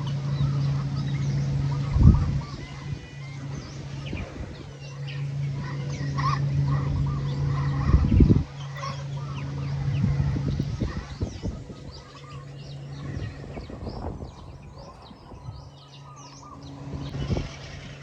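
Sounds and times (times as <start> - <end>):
bird calls: 0.0 - 18.0
toy truck motor humming: 0.0 - 18.0.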